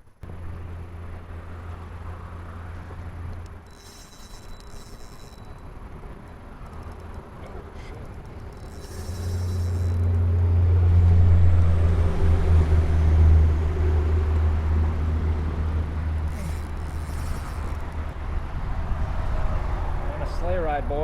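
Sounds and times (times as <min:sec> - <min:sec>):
low motor hum: 0:00.0 - 0:20.3.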